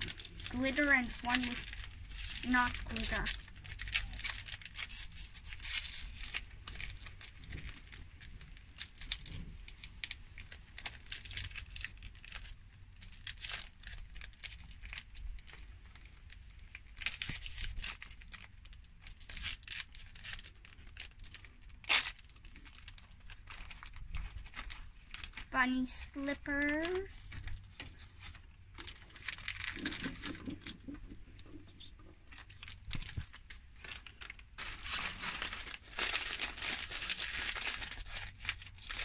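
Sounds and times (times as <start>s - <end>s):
foil wrapper crinkling and tearing: 0.0s - 39.0s.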